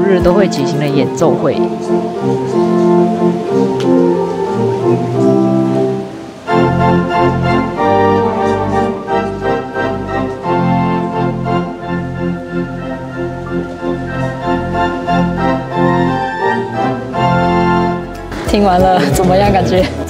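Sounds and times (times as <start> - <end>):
pipe organ playing chords: 0.0 - 18.4.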